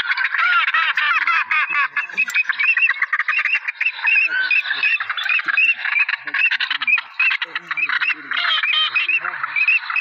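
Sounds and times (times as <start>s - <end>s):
chorus of chirping animal calls: 0.0s - 10.0s.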